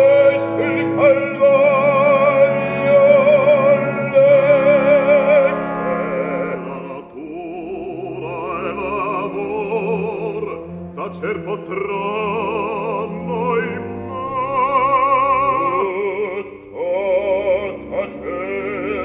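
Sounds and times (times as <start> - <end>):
operatic bass singing: 0.0 - 19.0
orchestra: 0.0 - 19.0.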